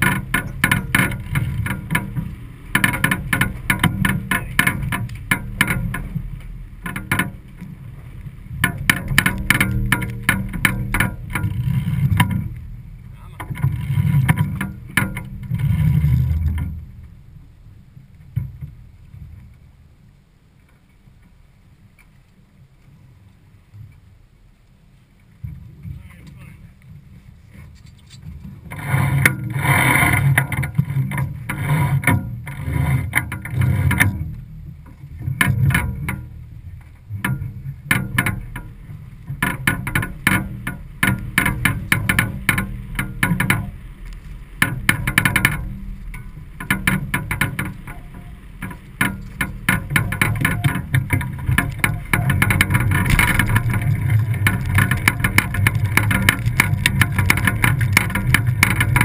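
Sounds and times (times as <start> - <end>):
rigging knocking and rattling: 0.0 - 17.2, 27.8 - 59.0
wind and water rumble: 0.0 - 59.0.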